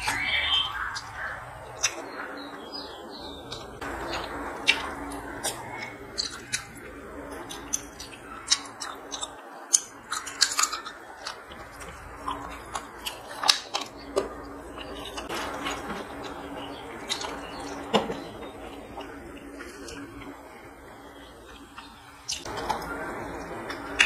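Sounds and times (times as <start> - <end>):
chewing and wet mouth sounds: 0.0 - 20.4, 21.1 - 24.0.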